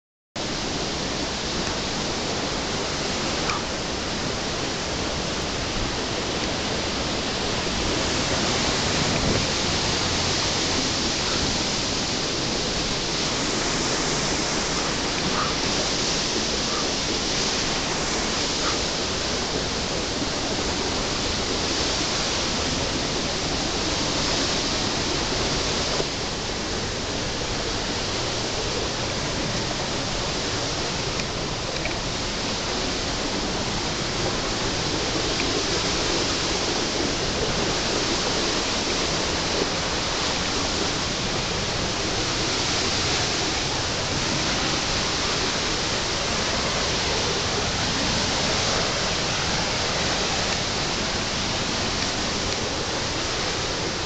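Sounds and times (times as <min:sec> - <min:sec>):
waterfall rushing: 0:00.4 - 0:54.0.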